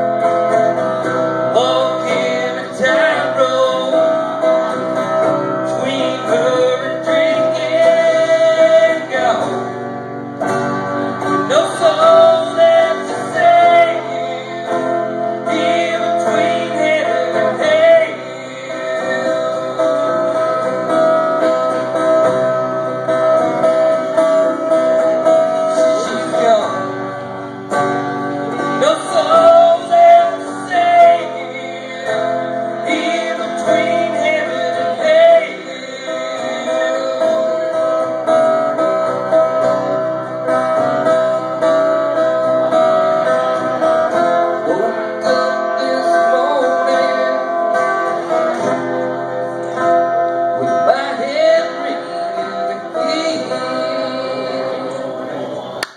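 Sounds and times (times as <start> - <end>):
electric guitar lead: 0.0 - 55.9
strummed acoustic guitar: 0.0 - 55.9.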